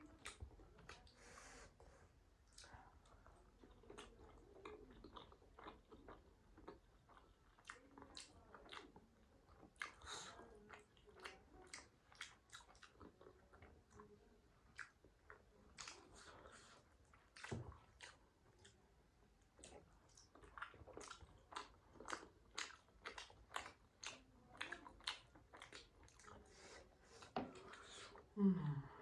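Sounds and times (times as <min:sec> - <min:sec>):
chewing with wet mouth smacks: 0:00.0 - 0:01.2, 0:02.4 - 0:28.3.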